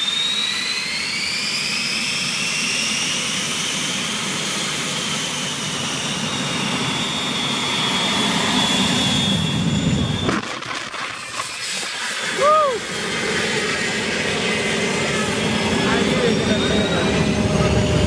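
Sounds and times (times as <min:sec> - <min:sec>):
jet engine whining: 0:00.0 - 0:18.0.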